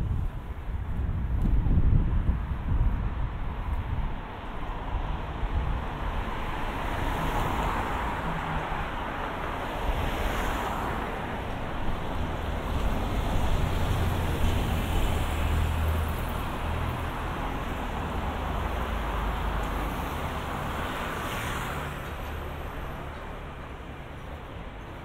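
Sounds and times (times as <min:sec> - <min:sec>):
steady hiss of traffic: 0:00.0 - 0:25.0.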